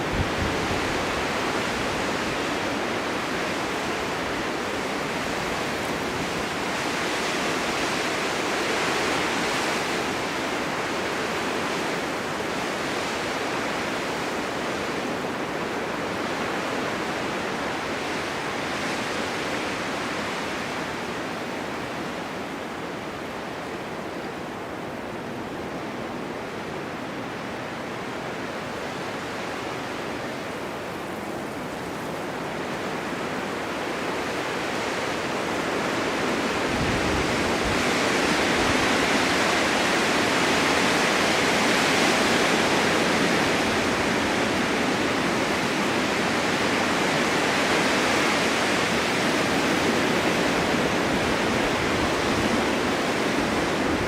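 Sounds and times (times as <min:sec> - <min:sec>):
blizzard wind gusting: 0:00.0 - 0:54.0.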